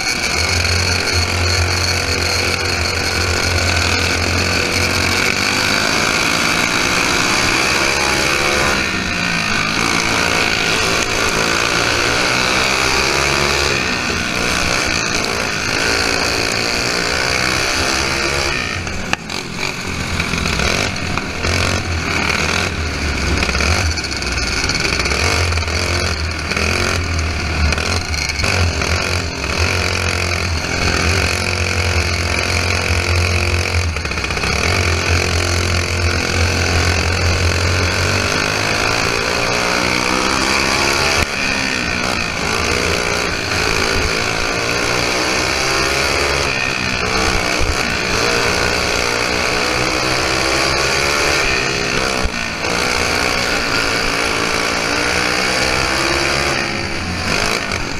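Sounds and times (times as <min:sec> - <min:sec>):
kart engine racing: 0:00.0 - 0:57.9.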